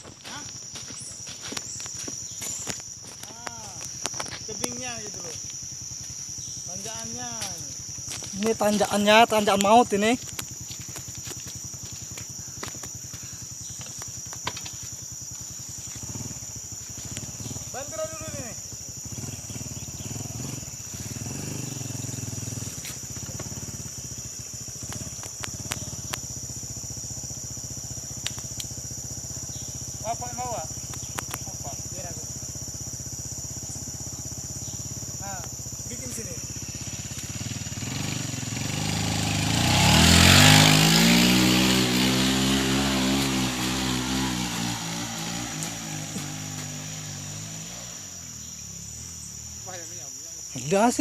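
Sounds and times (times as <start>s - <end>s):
motorcycle engine revving: 0.0s - 50.0s
high insect drone: 0.0s - 51.0s.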